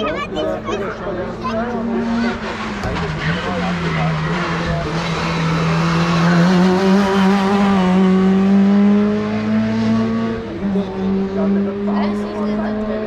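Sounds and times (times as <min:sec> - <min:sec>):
race car engine at high revs: 0:00.9 - 0:13.0.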